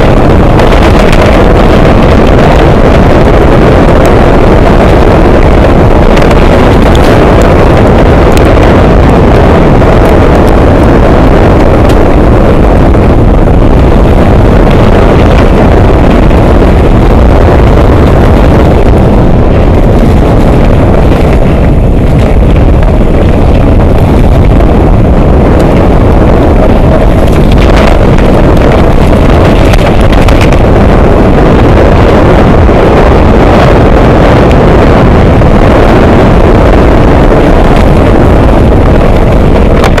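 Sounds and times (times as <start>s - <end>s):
wind rushing over microphone: 0.0s - 40.0s.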